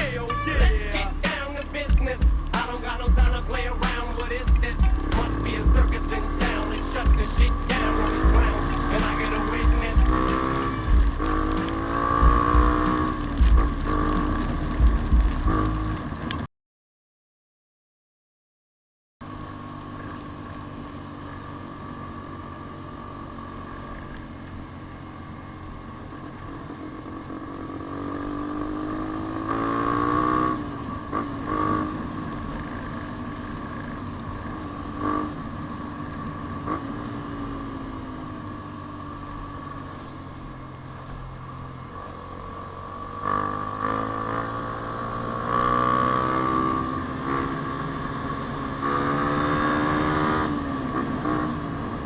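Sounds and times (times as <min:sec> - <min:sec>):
motorcycle engine revving: 0:00.0 - 0:16.5, 0:19.2 - 0:52.0.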